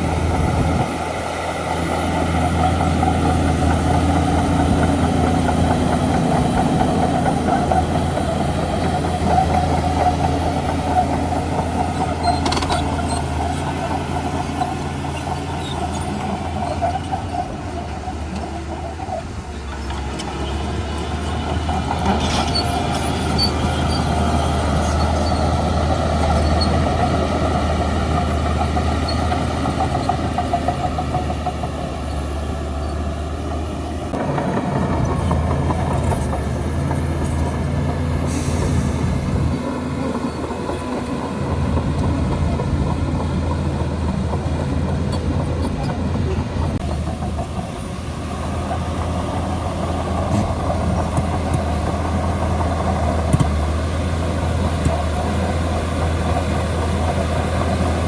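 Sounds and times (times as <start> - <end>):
bulldozer diesel engine humming: 0.0 - 58.0.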